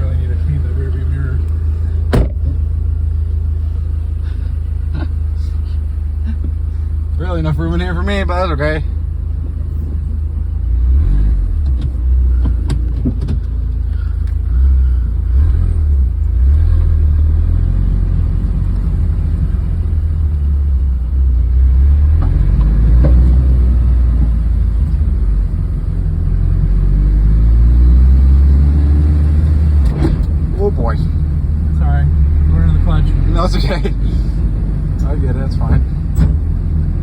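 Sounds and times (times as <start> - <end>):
car engine rumbling: 0.0 - 37.0.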